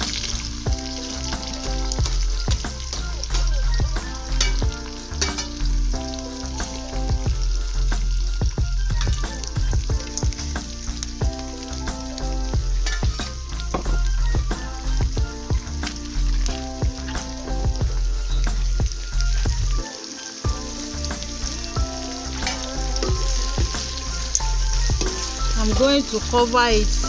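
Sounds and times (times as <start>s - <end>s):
background music with bass beat: 0.0s - 27.0s
oil frying and sizzling: 0.0s - 27.0s.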